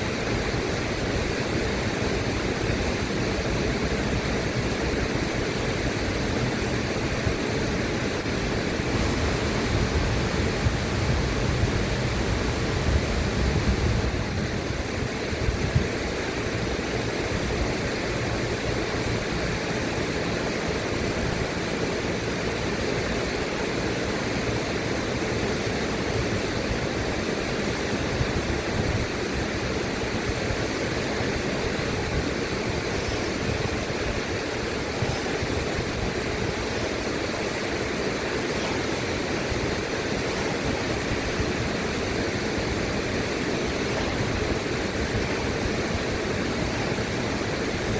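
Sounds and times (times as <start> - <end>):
river water rushing: 0.0 - 47.9.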